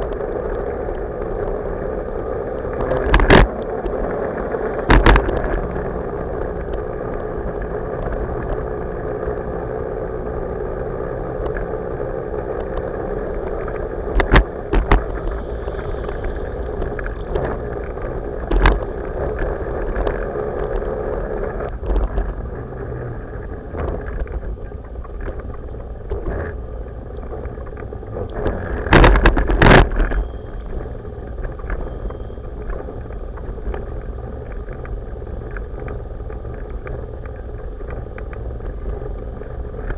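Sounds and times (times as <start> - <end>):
skateboard wheels rumbling: 0.0 - 39.9.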